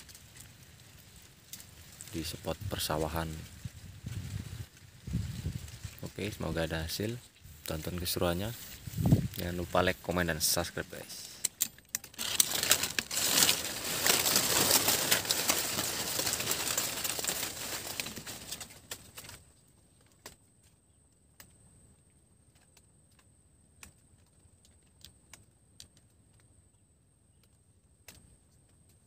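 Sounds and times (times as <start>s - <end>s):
rustling handling noise with clicks: 3.0s - 26.6s.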